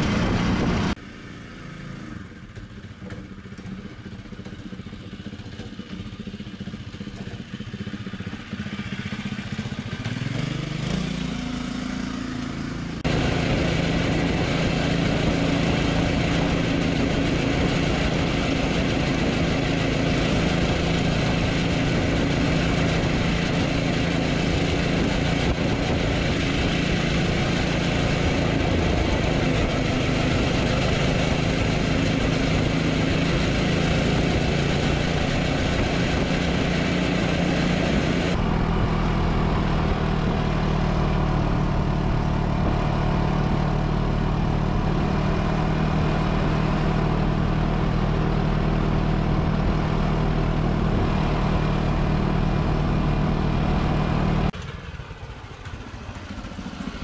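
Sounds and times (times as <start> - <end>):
small tractor engine running: 0.0 - 57.0.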